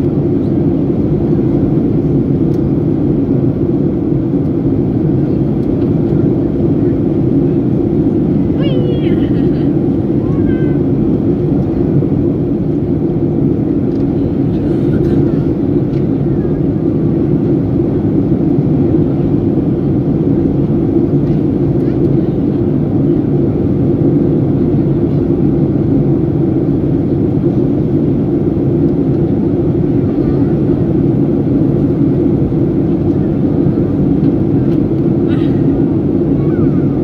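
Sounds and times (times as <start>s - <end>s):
aircraft cabin engine drone: 0.0s - 37.0s.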